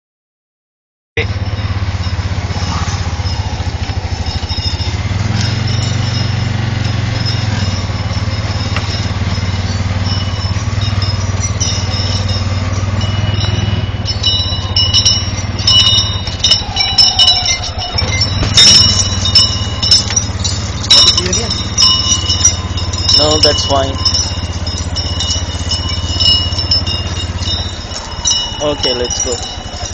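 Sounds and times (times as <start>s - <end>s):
short high ringing clinks: 1.2s - 29.9s
vehicle engine running: 1.2s - 29.9s.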